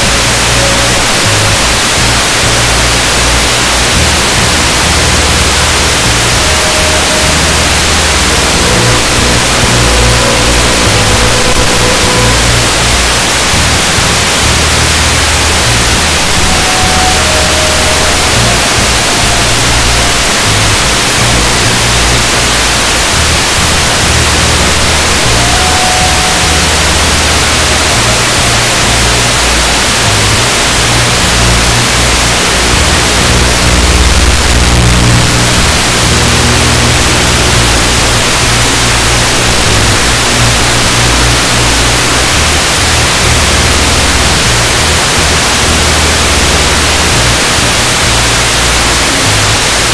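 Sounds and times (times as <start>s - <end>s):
music with bass notes: 0.0s - 49.9s
static hiss: 0.0s - 49.9s.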